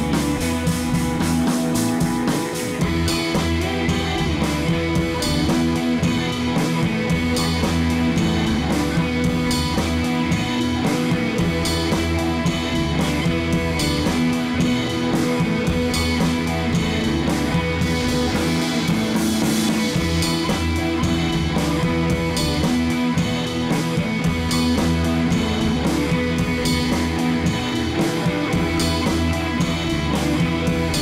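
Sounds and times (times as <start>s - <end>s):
instrumental rock music: 0.0s - 31.0s.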